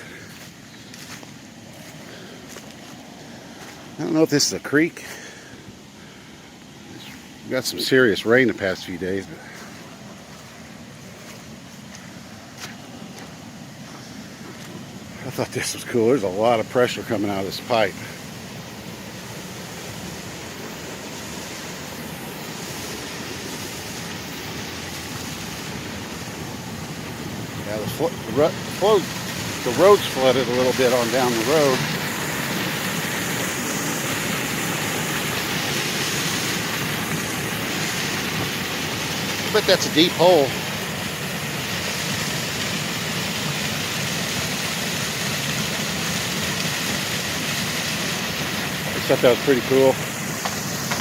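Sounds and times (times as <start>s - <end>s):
water gushing from a pipe: 7.3s - 51.0s.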